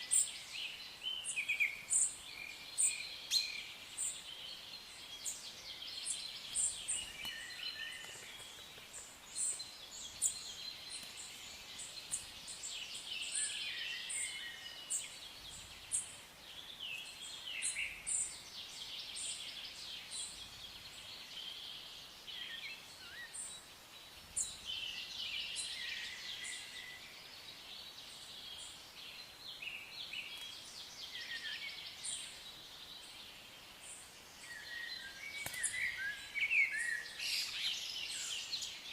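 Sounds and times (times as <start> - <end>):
songbirds trilling and chirping: 0.0 - 38.9.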